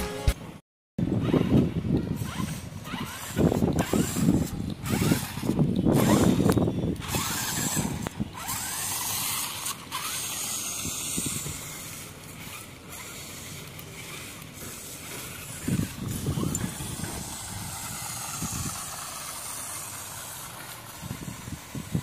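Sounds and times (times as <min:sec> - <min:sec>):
toy electric motor whirring: 0:01.2 - 0:22.0
tyres on concrete: 0:01.3 - 0:22.0.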